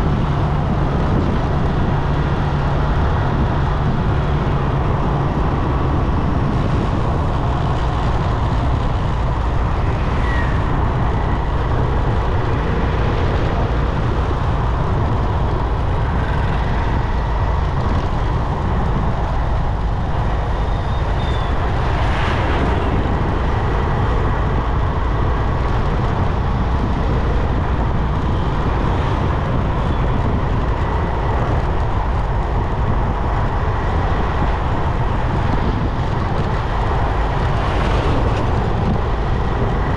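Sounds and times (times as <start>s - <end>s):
surrounding traffic: 0.0s - 39.9s
wind noise: 0.0s - 39.9s.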